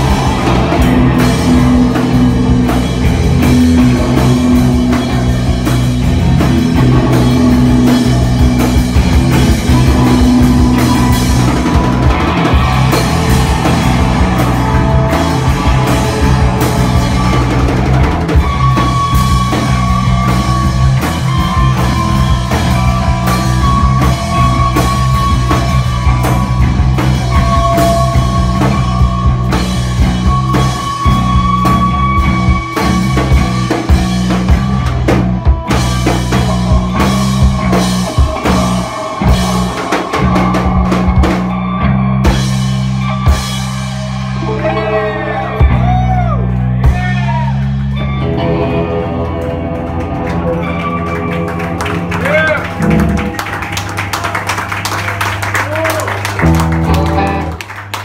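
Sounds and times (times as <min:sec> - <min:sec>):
electric guitar bending tones: 0:00.0 - 0:54.7, 0:56.3 - 0:57.7
droning bass: 0:00.0 - 0:58.0
drum kit: 0:00.0 - 0:58.0
rock band playing: 0:00.0 - 0:58.0.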